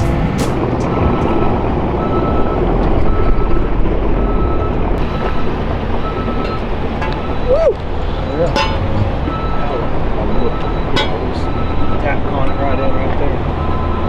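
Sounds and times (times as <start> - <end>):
heavy machine engine running: 0.0 - 14.0
reversing alarm beeping: 0.8 - 14.0.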